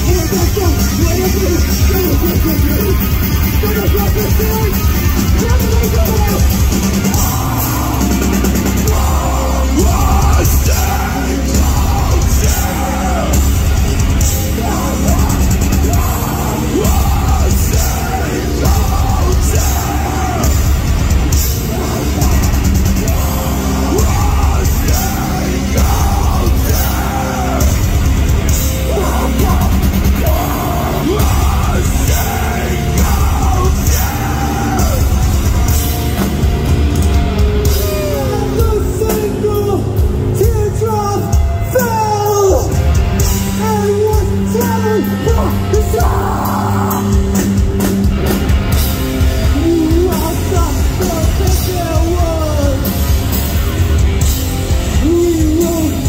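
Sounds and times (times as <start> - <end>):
singer screaming: 0.0 - 36.1, 37.6 - 42.8, 43.5 - 47.4, 54.8 - 56.0
hardcore band playing: 0.0 - 56.0.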